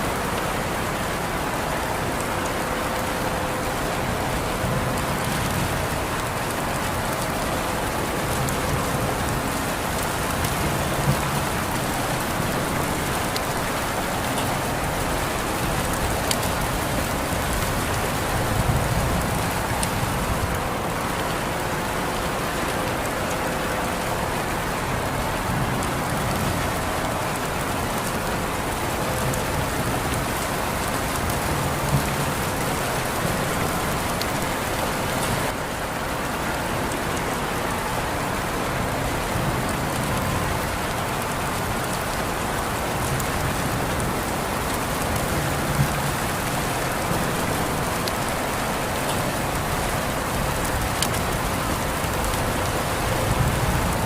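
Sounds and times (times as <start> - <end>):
steady rain on a surface: 0.0 - 54.0.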